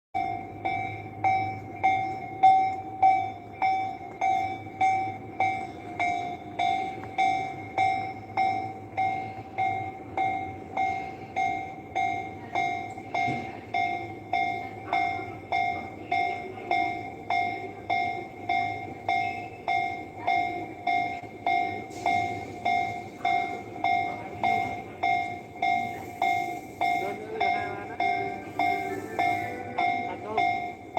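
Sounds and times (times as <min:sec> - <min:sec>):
railroad crossing warning bell ringing: 0:00.2 - 0:30.9.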